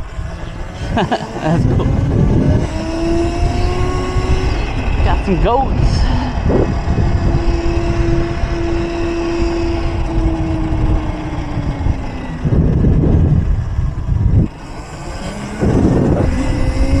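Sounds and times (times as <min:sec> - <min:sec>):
electric motor whining: 0:00.0 - 0:17.0
wind noise on microphone: 0:00.0 - 0:17.0.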